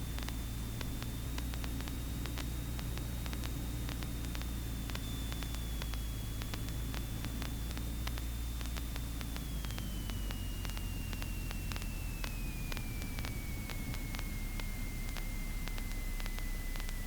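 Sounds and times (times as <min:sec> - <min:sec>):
faint high whine: 0:00.0 - 0:17.0
faint clicks: 0:00.2 - 0:17.0.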